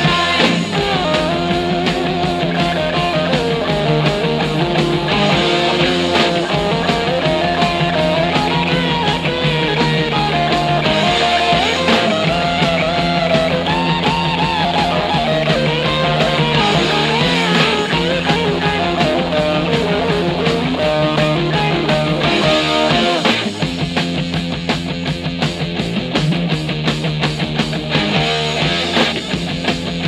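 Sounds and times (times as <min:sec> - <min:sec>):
rock music with electric guitars: 0:00.0 - 0:30.0.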